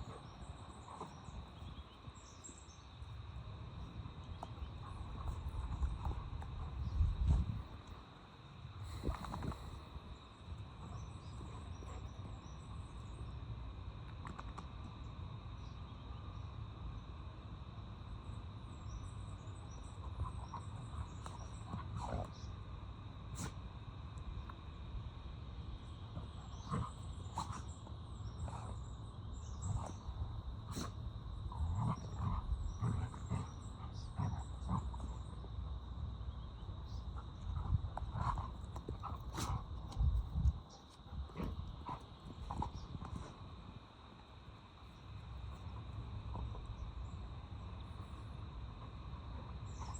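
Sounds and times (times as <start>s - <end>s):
insect drone: 0.0s - 49.9s.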